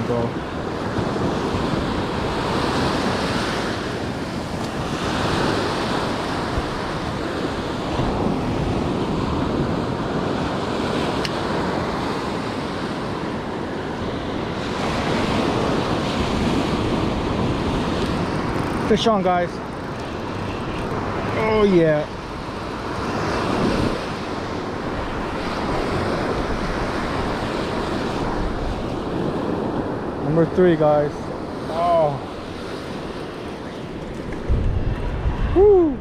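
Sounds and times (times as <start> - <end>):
ocean surf breaking on beach: 0.0 - 36.0
wind buffeting microphone: 0.0 - 36.0.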